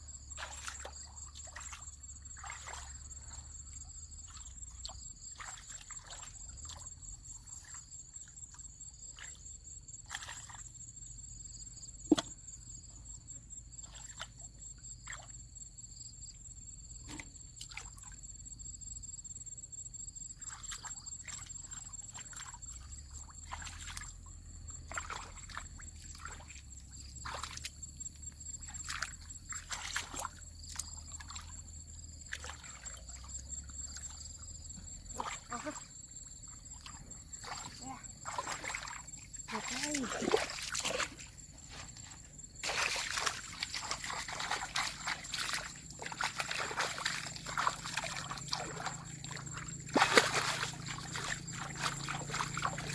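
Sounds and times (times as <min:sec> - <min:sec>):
water sloshing and splashing: 0:00.0 - 0:12.9, 0:13.7 - 0:15.4, 0:16.9 - 0:18.3, 0:20.3 - 0:52.9.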